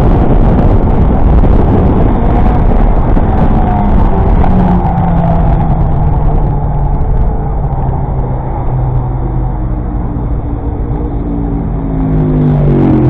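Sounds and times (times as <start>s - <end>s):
car engine running: 0.0s - 13.0s
road noise: 0.0s - 13.0s.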